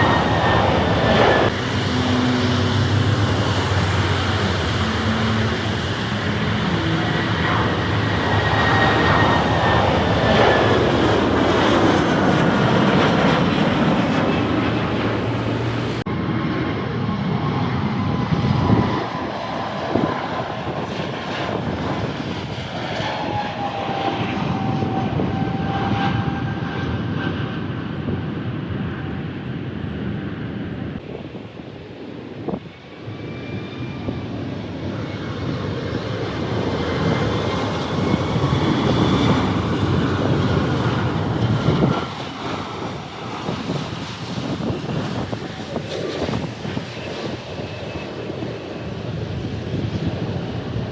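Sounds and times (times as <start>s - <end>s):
jet airliners passing: 0.0s - 50.9s.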